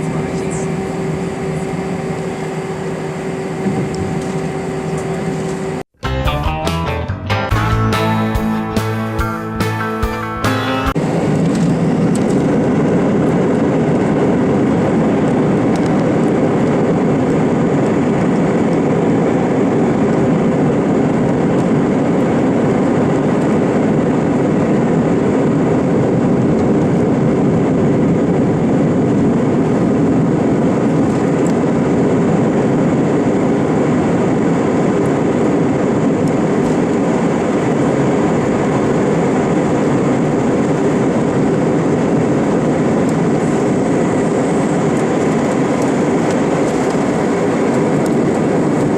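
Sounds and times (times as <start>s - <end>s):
jet engine and airflow in cabin: 0.0s - 6.0s, 10.9s - 48.9s.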